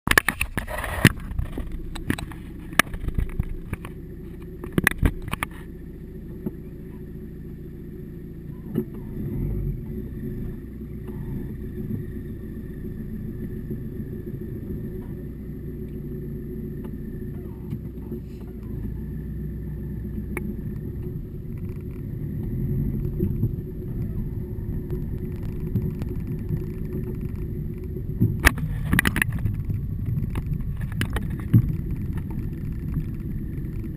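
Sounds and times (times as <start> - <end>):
car engine running: 0.1 - 33.9.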